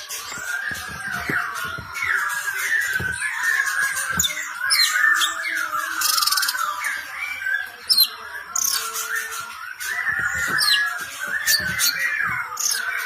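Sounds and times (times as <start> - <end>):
bird singing chattering warbles: 0.0 - 13.0.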